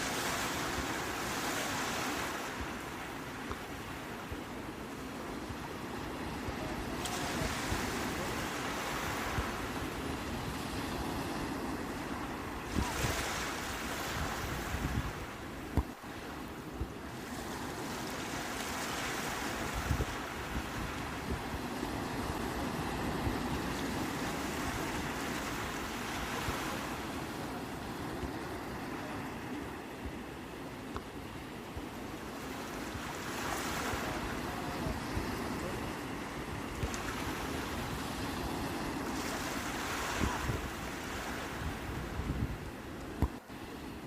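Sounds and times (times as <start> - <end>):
sea waves washing on shore: 0.0 - 44.0.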